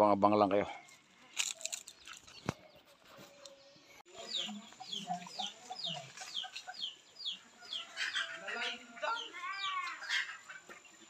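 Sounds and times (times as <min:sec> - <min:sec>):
chickens clucking: 0:00.6 - 0:11.0.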